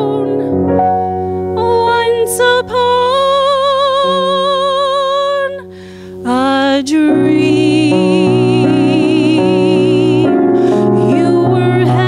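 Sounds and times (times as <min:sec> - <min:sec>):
woman singing with vibrato: 0:00.0 - 0:00.5, 0:01.6 - 0:12.0
piano accompaniment: 0:00.0 - 0:12.0.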